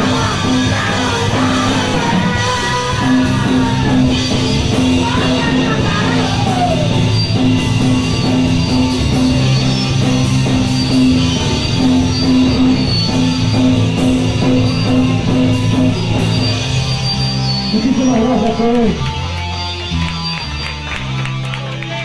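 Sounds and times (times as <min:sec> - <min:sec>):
bass guitar: 0:00.0 - 0:22.0
drum kit: 0:00.0 - 0:22.0
electric guitar: 0:00.0 - 0:22.0.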